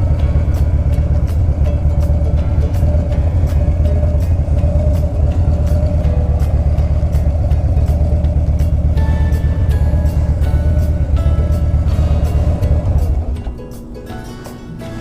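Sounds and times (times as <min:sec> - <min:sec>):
motorcycle engine deep rumble: 0:00.0 - 0:13.6.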